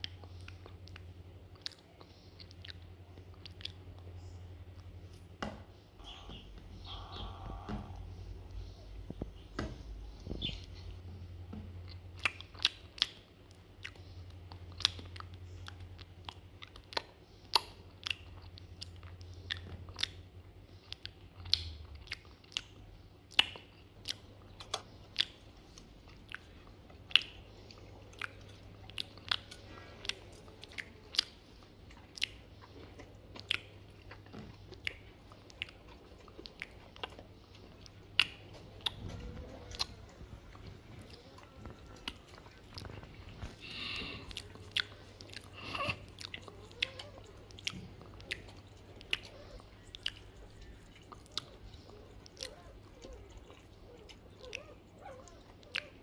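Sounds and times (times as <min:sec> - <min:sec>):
dog chewing food: 0:06.6 - 0:56.0.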